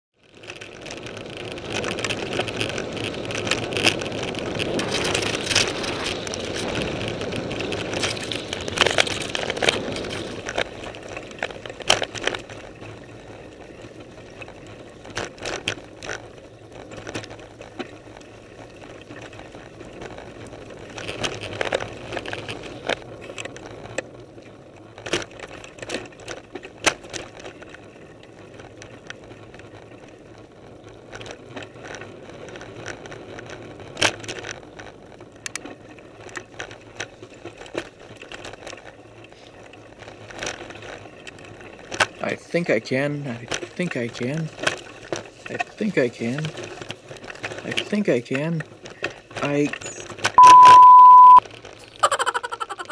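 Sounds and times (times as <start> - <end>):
bike knocking and rattling: 0.2 - 50.4
bike tyres rolling on dirt: 0.2 - 50.4, 51.4 - 52.9.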